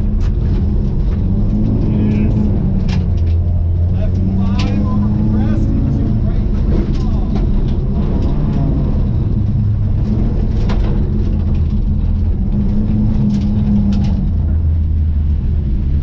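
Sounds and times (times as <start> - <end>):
rally car engine running: 0.0 - 16.0.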